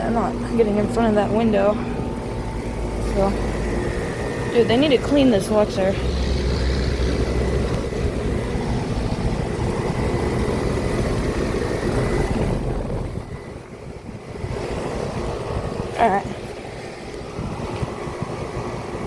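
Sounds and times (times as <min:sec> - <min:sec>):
compressor hum and fan noise: 0:00.0 - 0:19.0.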